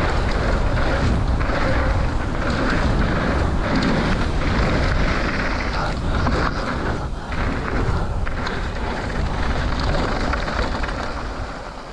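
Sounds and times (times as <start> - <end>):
bike tyres on dirt: 0.0 - 11.9
wind on microphone: 0.0 - 11.9.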